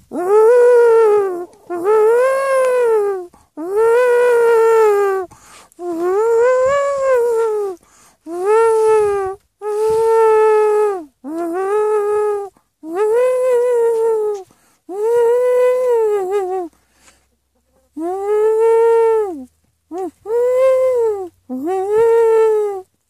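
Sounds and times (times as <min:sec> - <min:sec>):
high wailing voice: 0:00.0 - 0:16.7, 0:18.0 - 0:22.9.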